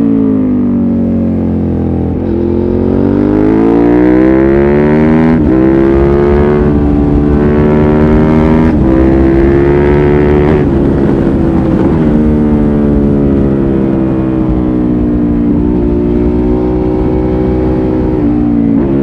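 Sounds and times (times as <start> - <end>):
motorcycle accelerating hard: 0.0 - 19.0.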